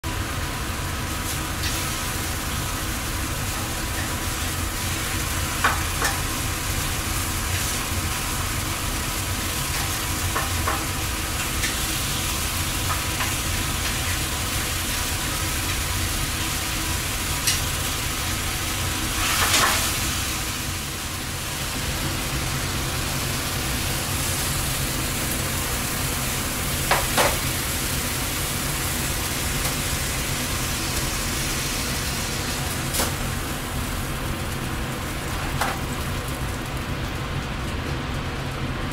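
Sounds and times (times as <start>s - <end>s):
low hum of galley: 0.0s - 38.9s
meat sizzling in a pan: 0.1s - 38.8s.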